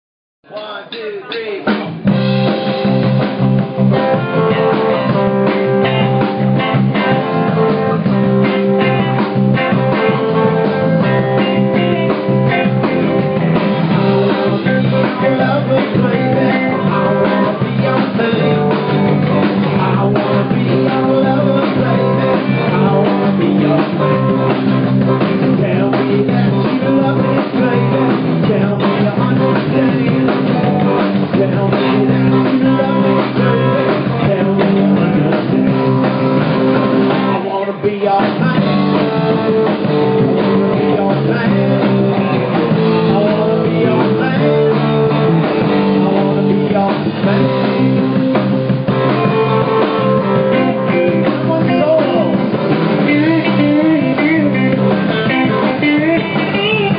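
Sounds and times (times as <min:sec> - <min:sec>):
drum kit: 0:00.5 - 0:56.9
electric guitars: 0:01.7 - 0:56.9
electric bass: 0:01.8 - 0:56.9.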